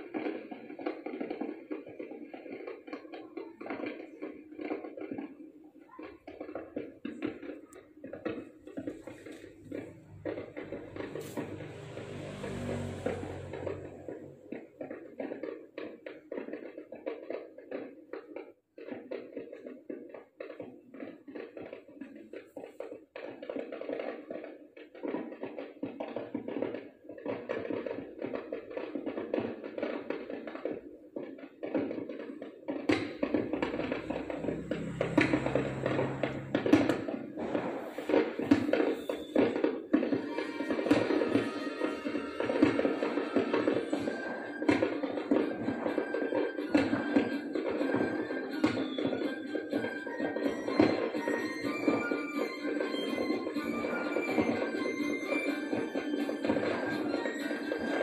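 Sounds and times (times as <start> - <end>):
fireworks crackling through tv speaker: 0.0 - 58.0.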